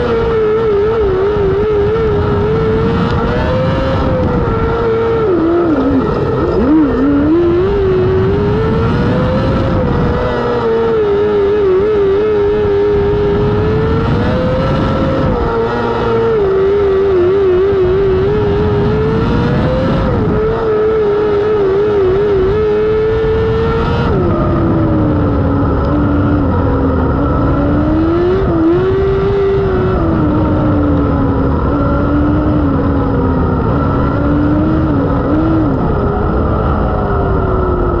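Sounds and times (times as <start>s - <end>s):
racing car engine revving: 0.0s - 38.0s.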